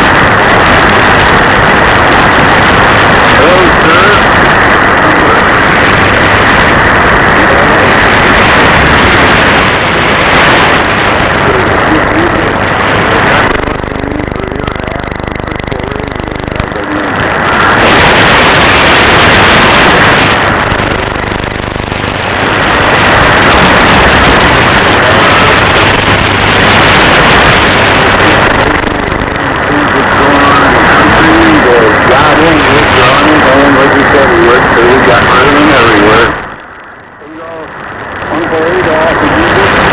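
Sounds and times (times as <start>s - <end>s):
radio static and interference: 0.0s - 39.9s.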